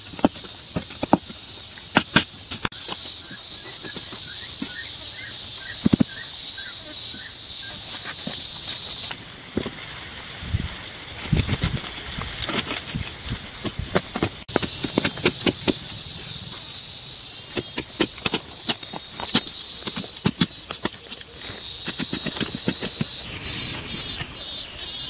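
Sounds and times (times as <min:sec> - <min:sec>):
high-pitched insect drone: 0:01.4 - 0:11.1, 0:14.5 - 0:25.0.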